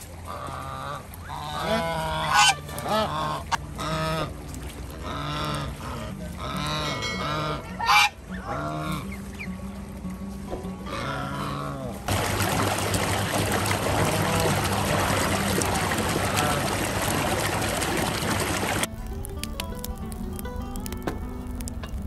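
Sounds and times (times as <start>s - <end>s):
geese honking: 0.0s - 18.9s.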